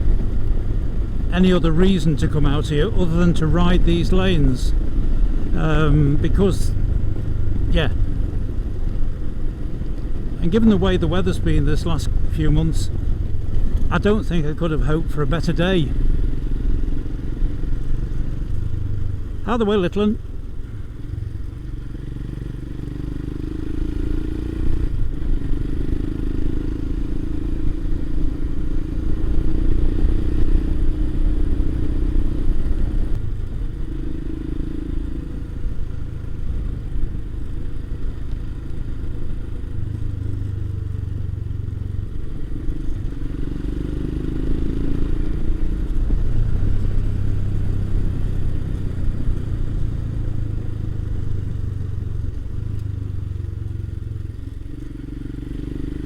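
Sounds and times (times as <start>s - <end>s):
steady low rumble: 0.0s - 22.4s, 23.8s - 54.8s
motorcycle engine revving: 0.0s - 56.0s.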